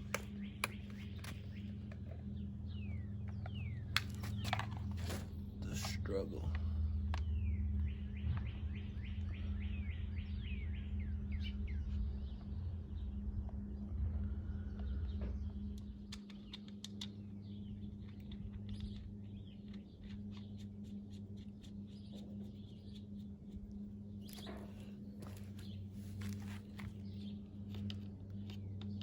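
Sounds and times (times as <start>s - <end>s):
songbird chirping: 0.0s - 29.0s
steady low hum: 0.0s - 29.0s.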